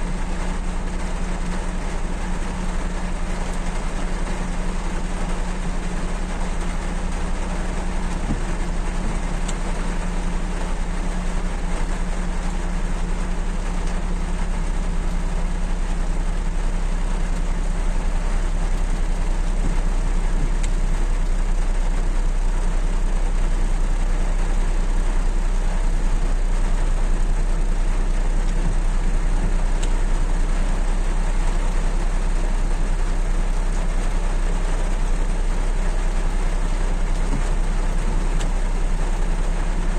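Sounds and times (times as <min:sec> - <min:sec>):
heavy rain on a car: 0:00.0 - 0:39.9.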